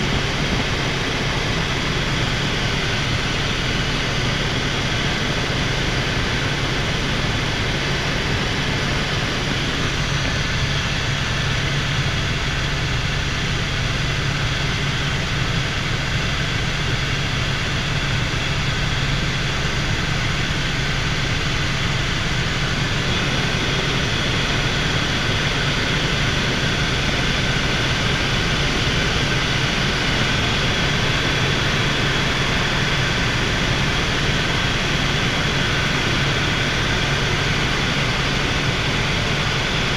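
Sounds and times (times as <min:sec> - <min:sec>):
helicopter engine and rotor drone: 0:00.0 - 0:39.9
high engine whine: 0:00.0 - 0:39.9.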